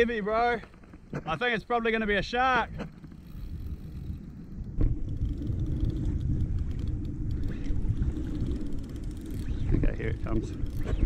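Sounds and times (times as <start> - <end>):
wind and water buffeting microphone: 0.0 - 11.0.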